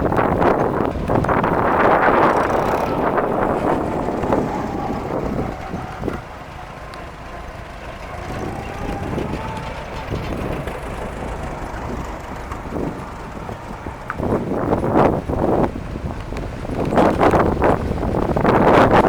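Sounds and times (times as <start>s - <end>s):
tractor engine running: 0.0s - 19.0s
wind buffeting microphone: 0.0s - 19.0s.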